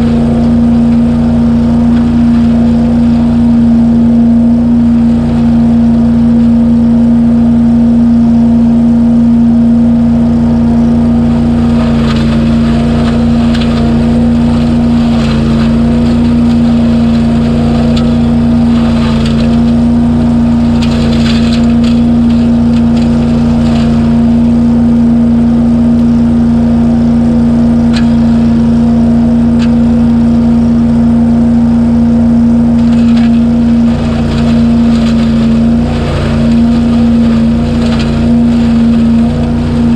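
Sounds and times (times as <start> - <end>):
leaves rattling through hose: 0.0 - 7.1, 10.9 - 39.9
debris loader engine hum: 0.0 - 39.9.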